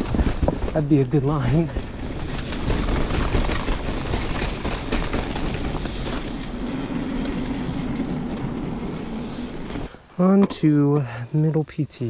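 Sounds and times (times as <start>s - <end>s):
bike tyres on dirt trail: 0.0s - 10.4s.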